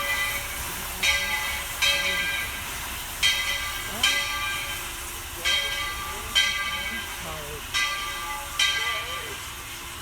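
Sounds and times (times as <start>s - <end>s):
locomotive bell ringing: 0.0s - 10.0s
steam hissing: 0.0s - 10.0s.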